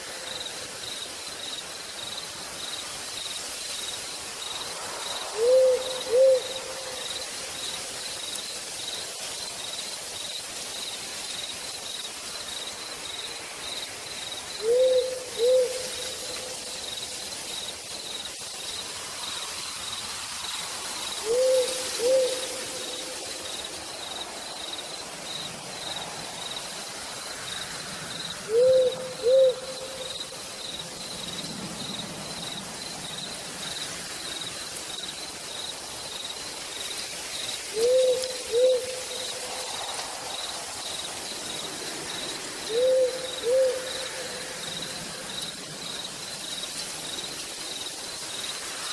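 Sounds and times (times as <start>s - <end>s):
insect chirping: 0.0s - 48.9s
rain falling through forest: 0.0s - 48.9s.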